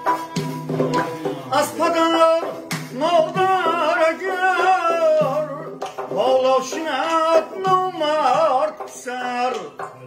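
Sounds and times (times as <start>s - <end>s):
man singing folk song: 0.0s - 10.0s
plucked lute: 0.0s - 10.0s.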